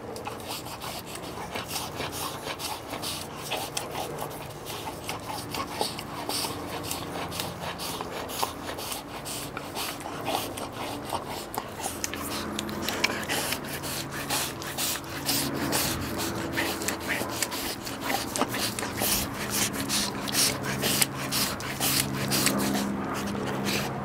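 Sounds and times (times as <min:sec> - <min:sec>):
dog licking bristles: 0:00.0 - 0:24.0.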